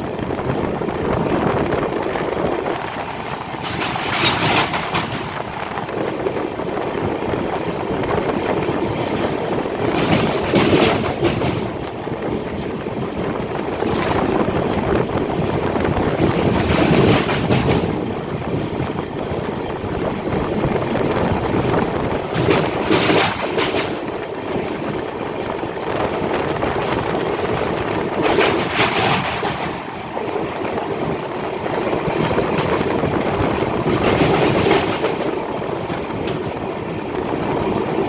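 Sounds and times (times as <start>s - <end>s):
train rumbling on rails: 0.0s - 38.0s.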